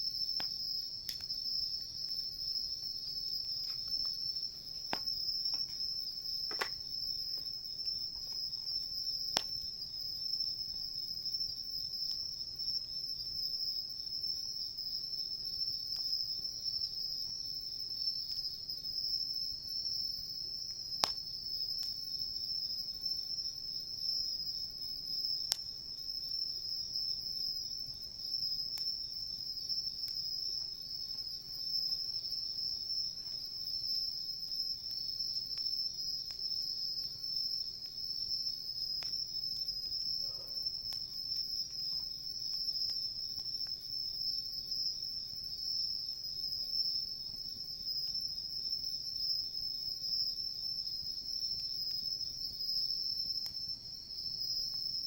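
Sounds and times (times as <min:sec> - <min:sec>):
crickets chirping: 0:00.0 - 0:55.0
wood fire crackle: 0:00.0 - 0:55.0.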